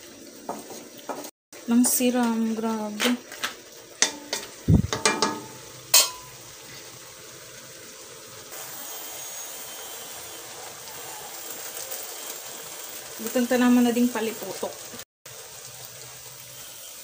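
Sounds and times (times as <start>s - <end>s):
food sizzling in pan: 0.0s - 17.0s.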